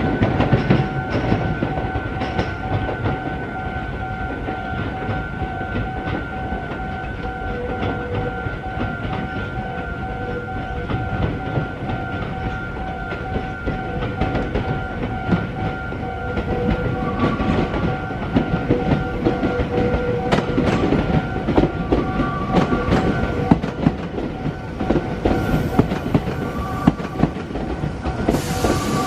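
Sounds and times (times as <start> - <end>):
train wheels clattering: 0.0 - 29.0.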